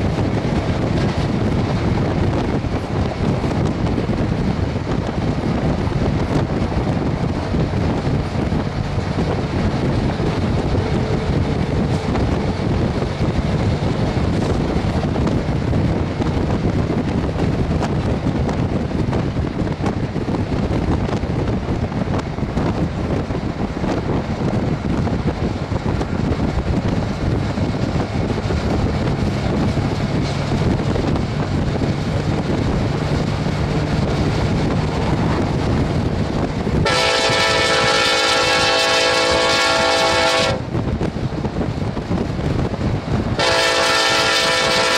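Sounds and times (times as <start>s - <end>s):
wind rushing on microphone: 0.0s - 44.9s.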